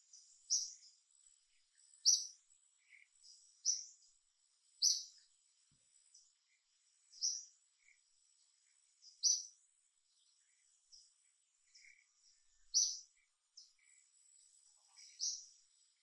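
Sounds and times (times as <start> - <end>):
quiet bird chirps: 0.0 - 16.0.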